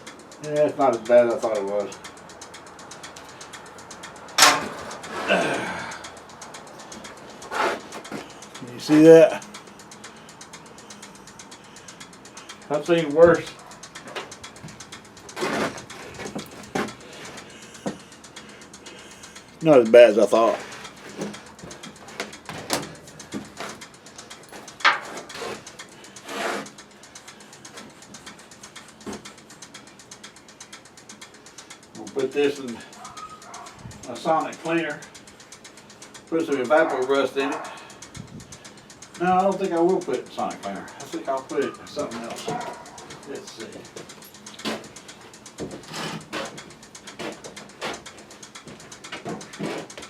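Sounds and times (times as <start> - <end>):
fast even ticking: 0.0 - 50.0
light rattling: 0.0 - 50.0.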